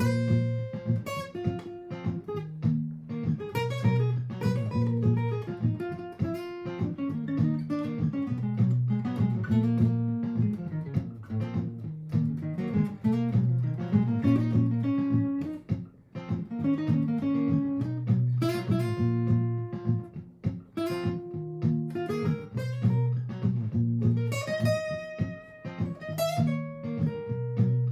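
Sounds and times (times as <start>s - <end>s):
looped acoustic guitar chords: 0.0s - 27.9s
plucked guitar notes: 0.0s - 27.9s.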